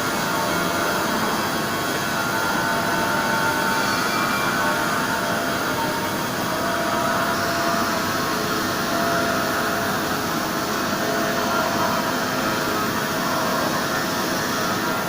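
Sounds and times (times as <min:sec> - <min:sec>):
milling machine running: 0:00.0 - 0:15.0.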